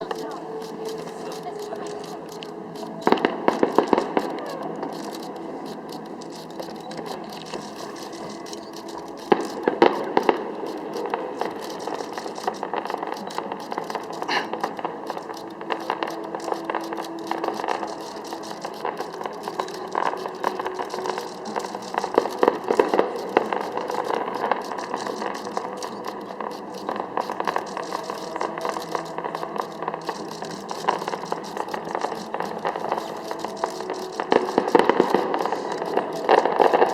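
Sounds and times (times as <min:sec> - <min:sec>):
background din: 0:00.0 - 0:36.9
fireworks bursting and crackling: 0:00.0 - 0:36.9.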